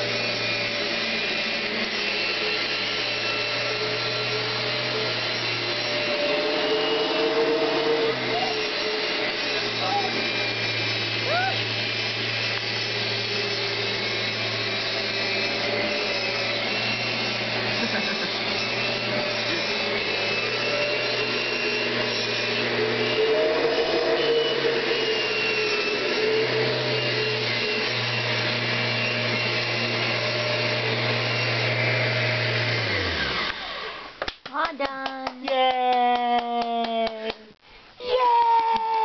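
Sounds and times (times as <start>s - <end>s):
vacuum cleaner motor running: 0.0s - 34.2s.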